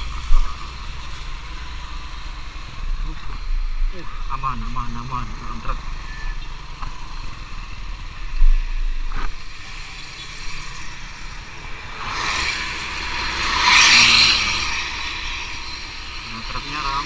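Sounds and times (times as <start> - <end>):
highway traffic: 0.0 - 17.0
vehicle passing: 0.0 - 17.0.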